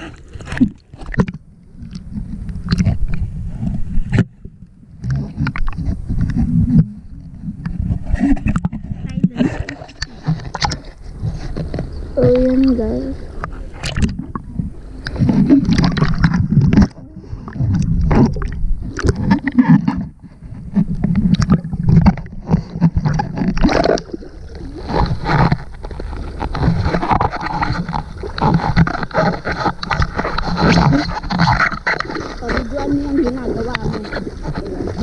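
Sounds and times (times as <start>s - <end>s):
muffled water sloshing and splashing: 0.0s - 35.0s.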